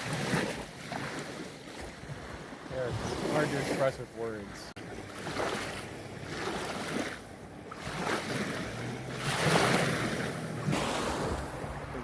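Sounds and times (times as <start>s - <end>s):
waves washing onto sandy shore: 0.0s - 12.0s.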